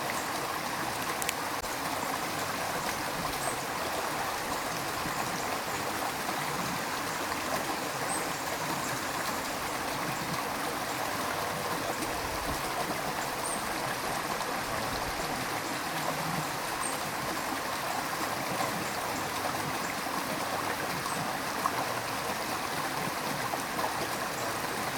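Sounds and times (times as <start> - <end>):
stream water running: 0.0 - 24.9.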